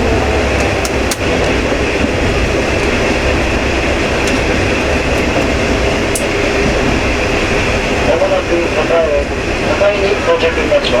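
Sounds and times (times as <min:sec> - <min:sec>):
diesel engine rumble: 0:00.0 - 0:11.0
train wheels on rails: 0:00.0 - 0:11.0.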